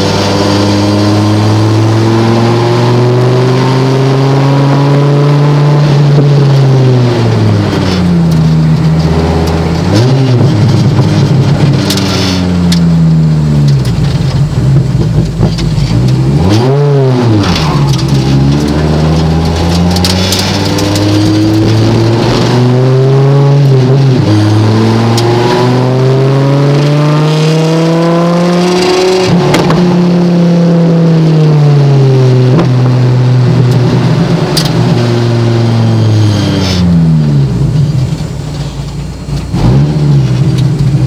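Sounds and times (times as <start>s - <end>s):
car engine revving in cabin: 0.0s - 41.0s.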